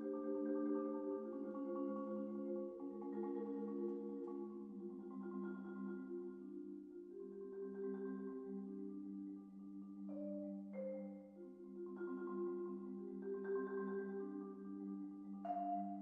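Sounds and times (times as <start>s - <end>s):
marimba chords: 0.0s - 16.0s.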